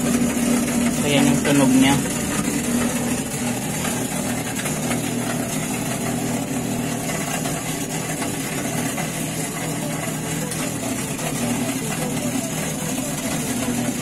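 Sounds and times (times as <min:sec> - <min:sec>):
washing machine spinning: 0:00.0 - 0:14.0.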